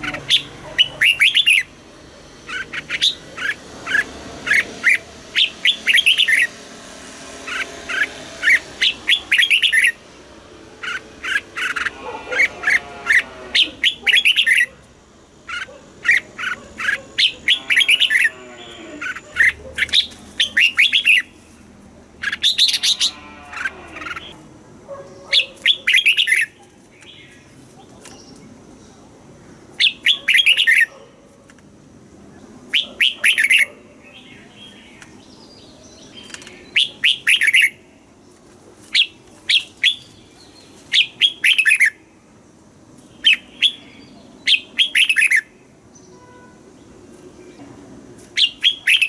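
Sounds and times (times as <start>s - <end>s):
bird singing warbled phrases: 0.0s - 6.6s, 7.4s - 10.0s, 10.8s - 14.8s, 15.4s - 21.4s, 22.2s - 24.4s, 25.0s - 31.0s, 32.3s - 42.4s, 43.0s - 47.7s, 48.4s - 49.0s.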